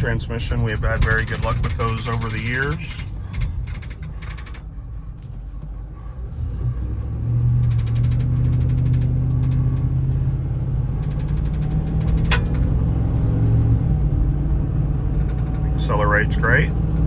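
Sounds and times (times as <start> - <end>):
truck engine from inside cab: 0.0 - 17.0.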